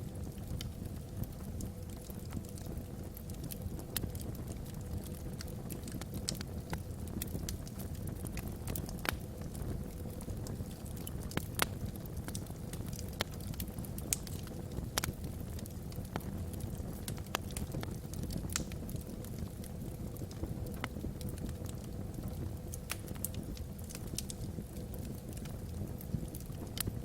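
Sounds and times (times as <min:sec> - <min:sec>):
low rumble of flame: 0:00.0 - 0:27.0
wood fire crackling: 0:00.0 - 0:27.0.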